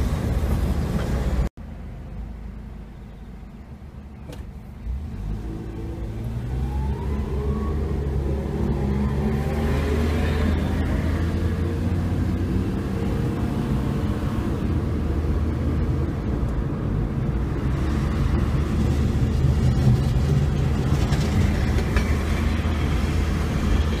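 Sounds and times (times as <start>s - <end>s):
vehicle road and engine rumble: 0.0s - 24.0s.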